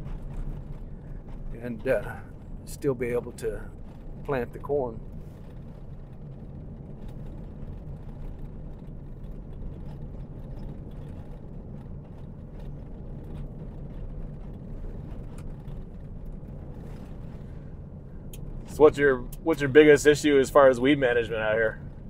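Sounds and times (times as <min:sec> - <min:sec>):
engine and tyre drone: 0:00.0 - 0:22.0.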